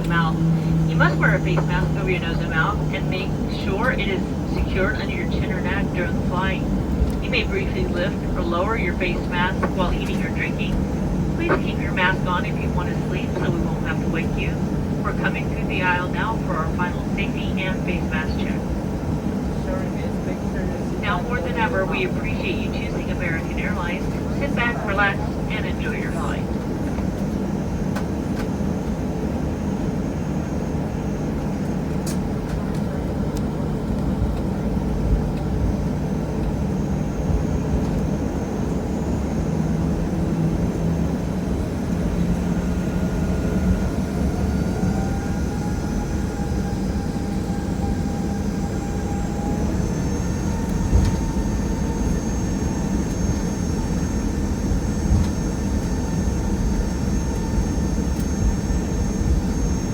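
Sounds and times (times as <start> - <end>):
airplane cabin rumble: 0.0 - 59.9
faint engine whine: 0.0 - 59.9.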